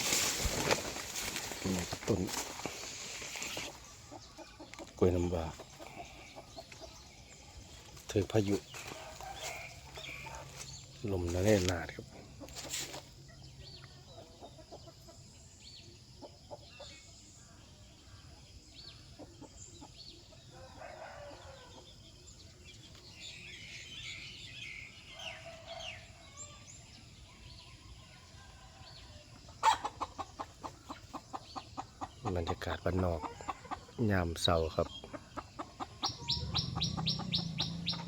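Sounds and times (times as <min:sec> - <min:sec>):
chickens clucking: 0:00.0 - 0:17.8, 0:18.4 - 0:23.1, 0:29.2 - 0:38.0.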